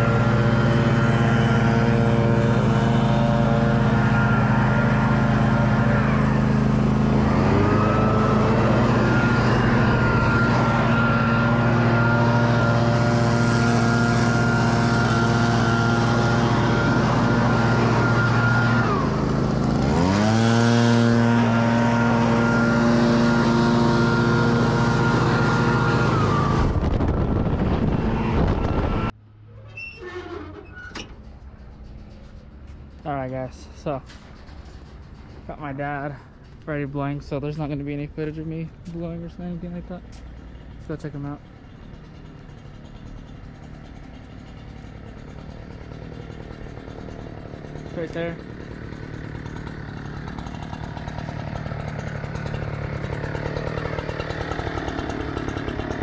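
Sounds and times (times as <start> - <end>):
small gasoline engine running: 0.0 - 29.1, 31.2 - 56.0.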